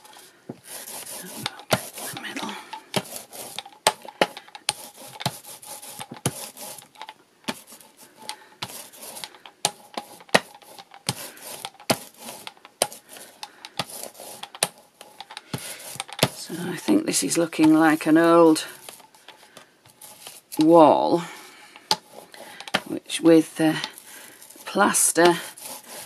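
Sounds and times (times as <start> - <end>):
paint tool scraping paper: 0.0 - 26.0.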